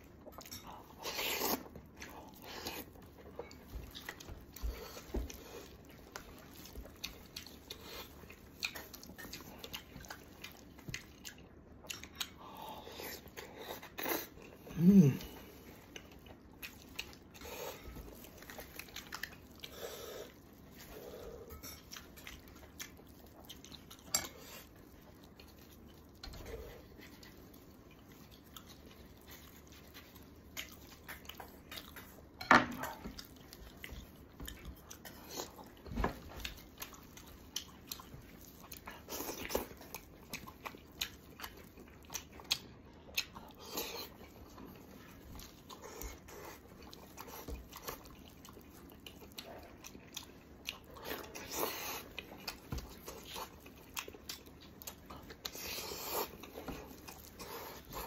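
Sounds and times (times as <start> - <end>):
chewing and smacking: 0.0 - 58.0.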